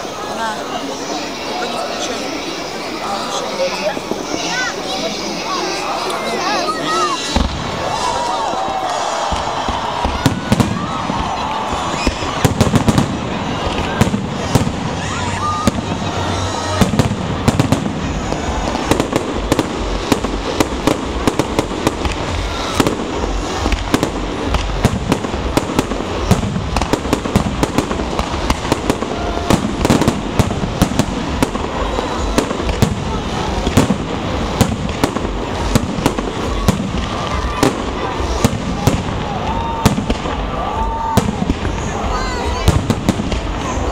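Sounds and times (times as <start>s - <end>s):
crowd voices: 0.0s - 43.9s
fireworks bangs and crackling: 0.0s - 43.9s.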